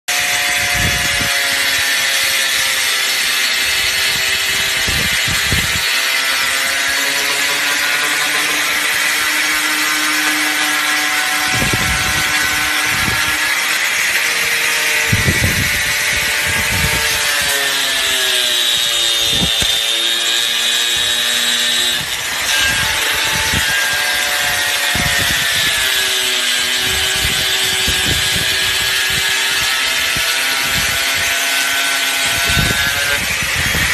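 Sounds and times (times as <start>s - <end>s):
angle grinder cutting wood: 0.1s - 33.9s.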